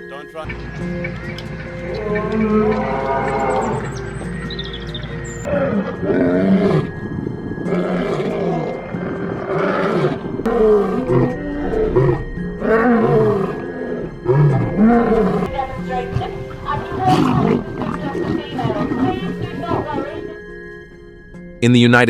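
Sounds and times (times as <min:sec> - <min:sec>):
background music with drone: 0:00.0 - 0:22.0
big cat growling: 0:00.5 - 0:20.7.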